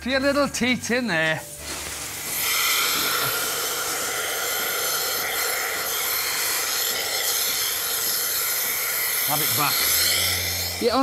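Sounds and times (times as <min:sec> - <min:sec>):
air hissing into milking cup: 0:01.5 - 0:11.0.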